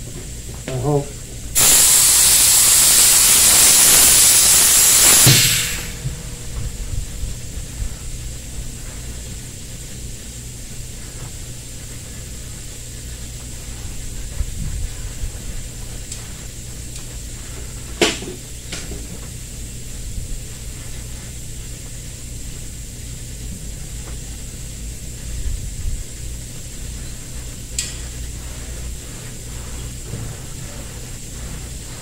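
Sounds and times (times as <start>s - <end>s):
low hum with high whine: 0.0s - 32.0s.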